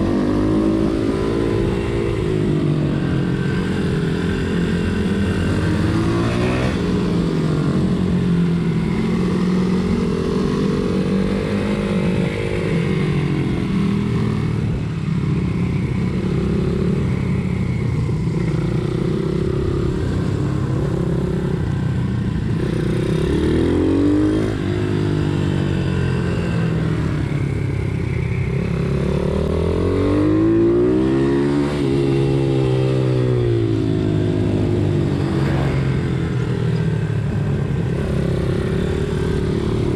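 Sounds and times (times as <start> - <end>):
motorbike engines revving: 0.0 - 39.9.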